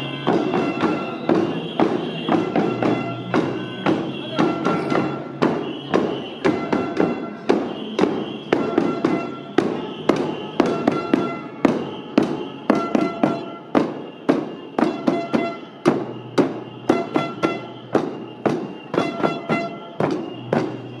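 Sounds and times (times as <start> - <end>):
marching drums: 0.0 - 21.0.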